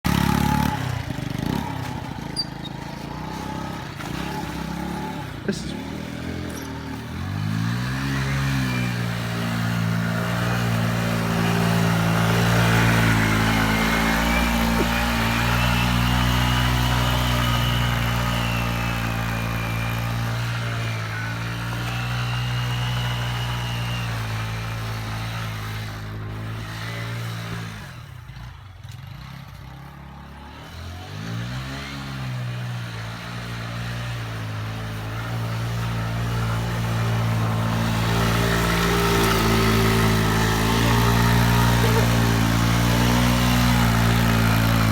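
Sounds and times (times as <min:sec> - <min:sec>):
moped engine revving: 0:00.0 - 0:44.9.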